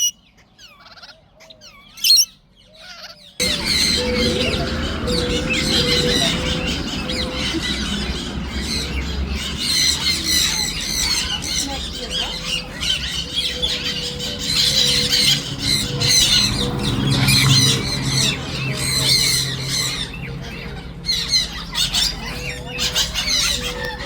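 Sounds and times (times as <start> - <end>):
lorikeets screeching: 0.0 - 24.0.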